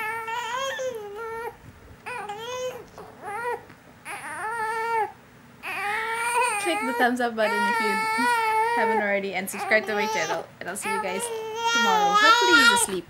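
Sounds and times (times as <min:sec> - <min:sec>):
baby crying: 0:00.0 - 0:13.0.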